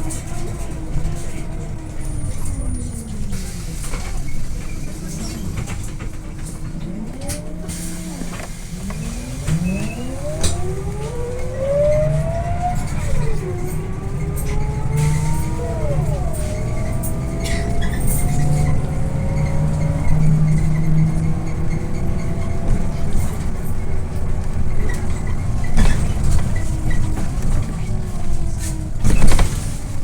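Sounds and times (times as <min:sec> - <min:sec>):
bus diesel engine: 0:00.0 - 0:30.0.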